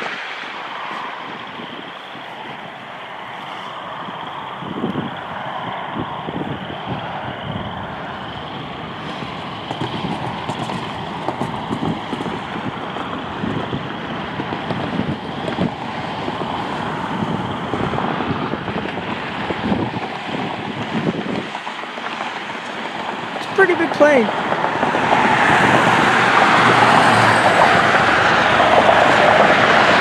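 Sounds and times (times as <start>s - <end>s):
jet engines running: 0.0s - 30.0s
wind buffeting microphone: 0.0s - 30.0s.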